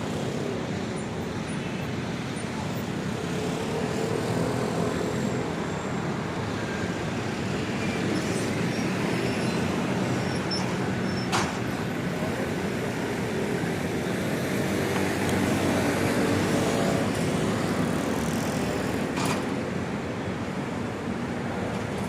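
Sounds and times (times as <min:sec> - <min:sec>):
traffic road noise: 0:00.0 - 0:22.0.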